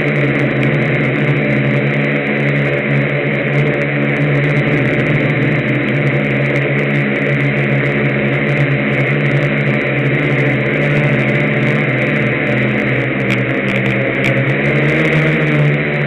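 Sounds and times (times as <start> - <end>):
multicopter propellers humming: 0.0 - 16.0.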